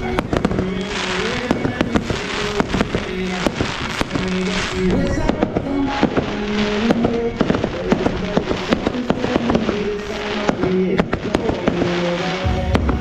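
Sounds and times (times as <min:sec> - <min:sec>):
fireworks bangs and crackles: 0:00.0 - 0:13.0
music with long held notes: 0:00.0 - 0:13.0.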